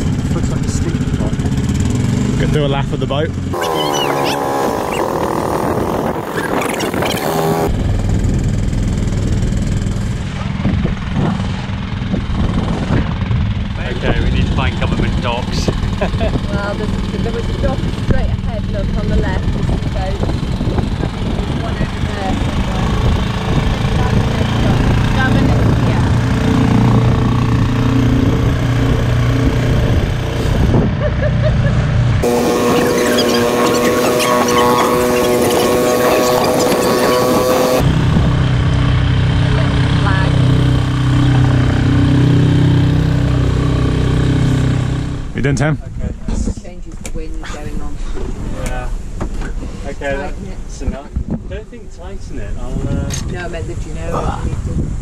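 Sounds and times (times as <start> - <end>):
outboard motor running: 0.0 - 51.3
wind noise: 3.5 - 55.0.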